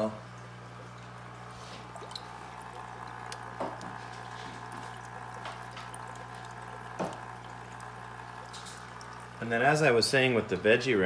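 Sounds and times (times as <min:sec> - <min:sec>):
bubbling water: 0:00.0 - 0:11.0
equipment low hum: 0:00.0 - 0:11.0.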